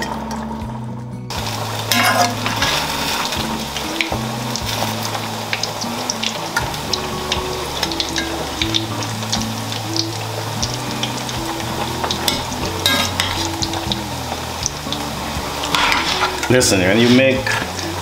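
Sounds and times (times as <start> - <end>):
background music with bass line: 0.0 - 18.0
food sizzling in a pot: 0.0 - 18.0.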